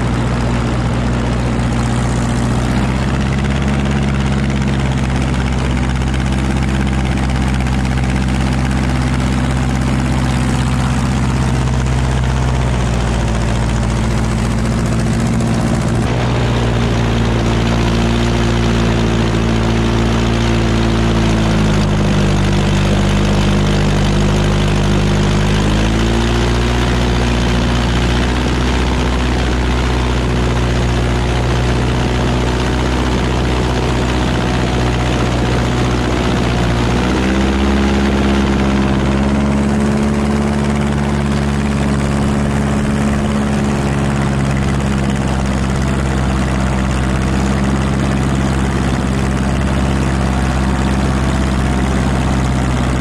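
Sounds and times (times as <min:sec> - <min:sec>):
airboat engine and propeller: 0:00.0 - 0:53.0.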